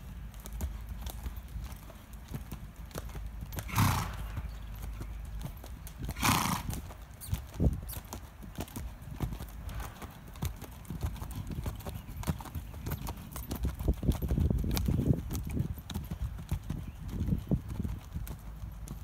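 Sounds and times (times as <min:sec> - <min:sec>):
hoofbeats on sand: 0:00.0 - 0:19.0.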